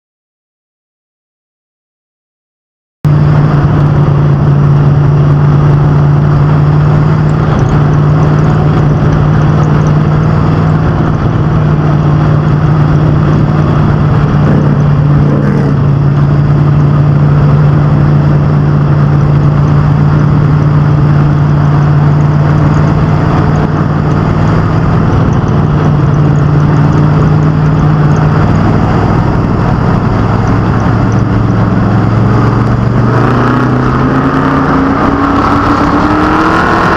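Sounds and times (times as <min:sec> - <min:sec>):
race truck engines running: 0:03.1 - 0:36.9.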